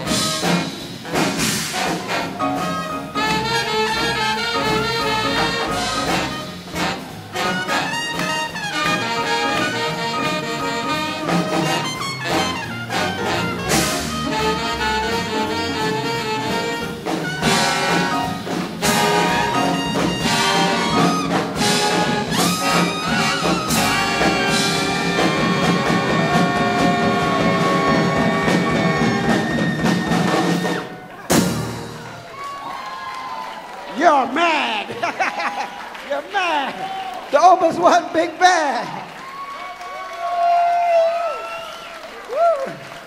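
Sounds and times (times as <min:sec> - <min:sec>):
big band swing jazz: 0:00.0 - 0:35.0.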